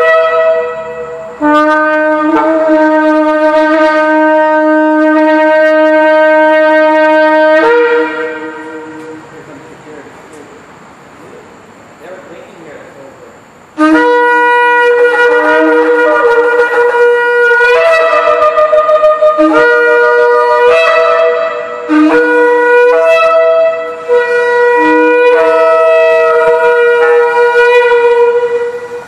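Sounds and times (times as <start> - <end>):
shofars blowing in harmony: 0.0 - 10.5, 13.6 - 29.0.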